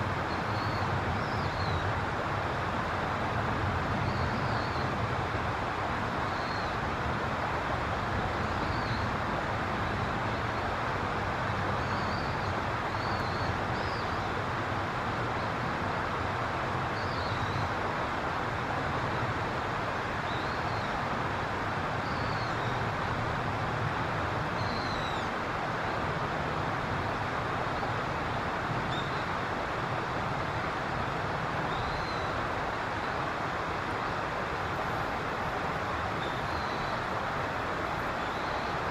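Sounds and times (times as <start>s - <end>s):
distant traffic hum: 0.0s - 38.9s.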